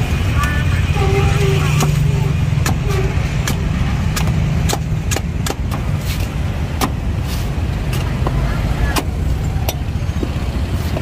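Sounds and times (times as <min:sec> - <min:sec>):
cleaver chopping coconut husk: 0:01.6 - 0:11.0.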